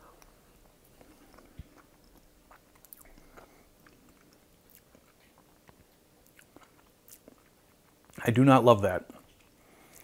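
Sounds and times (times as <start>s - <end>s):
person chewing: 0.0s - 8.2s, 9.2s - 10.0s.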